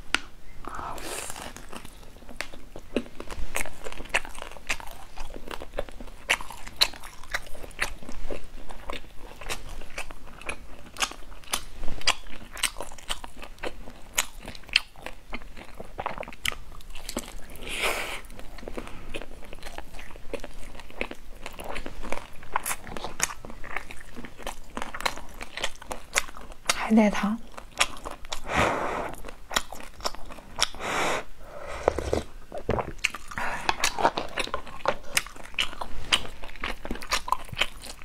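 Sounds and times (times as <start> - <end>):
crunchy food chewing: 0.2 - 26.8, 27.4 - 38.0.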